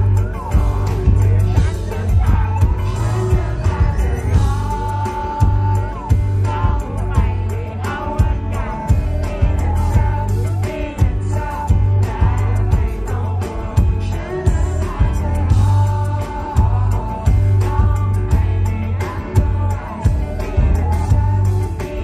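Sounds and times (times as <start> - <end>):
backing band with drums and bass: 0.0 - 22.0
man singing live: 0.0 - 22.0.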